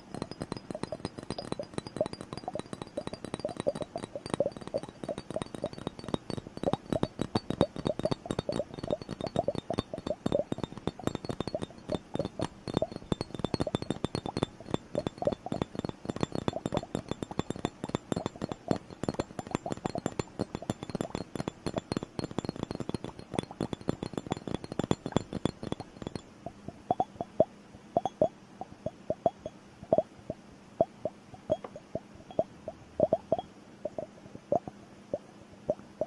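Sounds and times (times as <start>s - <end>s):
tapping on liquid bubble timer: 0.0s - 35.9s.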